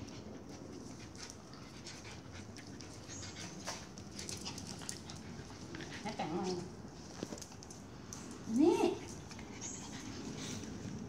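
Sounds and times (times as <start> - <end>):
dogs panting: 0.0 - 11.0.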